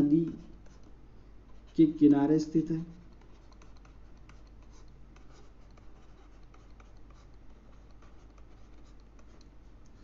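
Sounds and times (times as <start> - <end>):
stylus scratching on pen tablet: 0.0 - 0.9, 1.5 - 10.0
low steady hum: 0.0 - 10.0.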